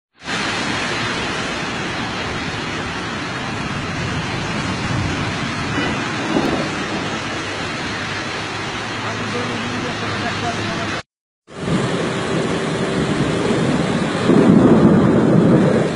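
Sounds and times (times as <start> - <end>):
heavy rain: 0.1 - 15.9
vehicles driving through flood water: 0.2 - 15.9.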